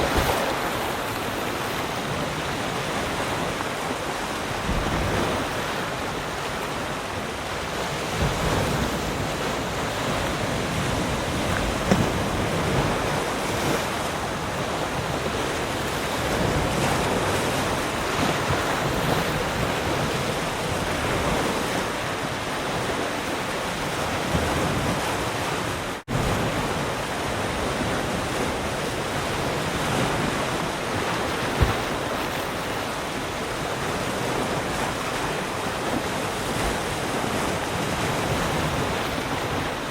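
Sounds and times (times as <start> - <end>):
waves breaking: 0.0 - 39.9
wind on microphone: 0.0 - 39.9.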